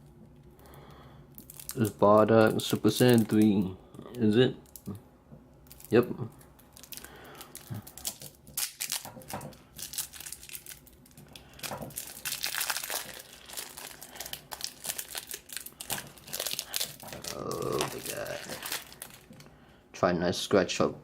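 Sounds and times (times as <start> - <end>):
plastic packaging crinkling: 1.3 - 5.0, 5.6 - 19.5.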